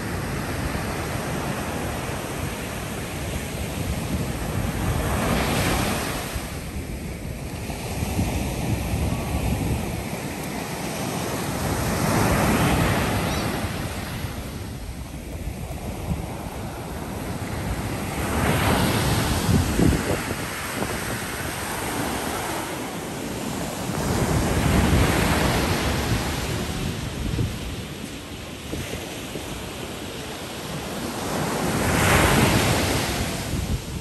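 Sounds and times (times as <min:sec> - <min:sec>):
ocean surf breaking: 0:00.0 - 0:34.0
wind on microphone: 0:00.0 - 0:34.0.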